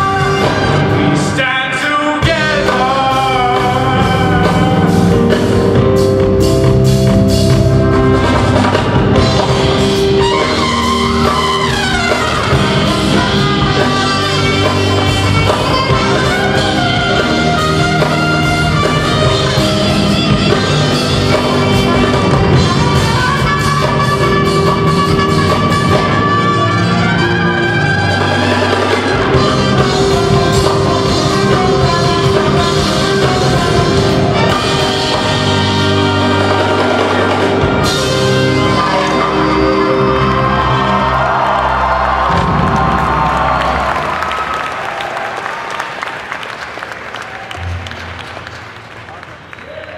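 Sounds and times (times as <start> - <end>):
saxophone: 0.0 - 1.4, 2.2 - 44.4
drum kit: 0.0 - 45.3
trumpet: 0.0 - 45.3
keyboard: 0.0 - 45.4.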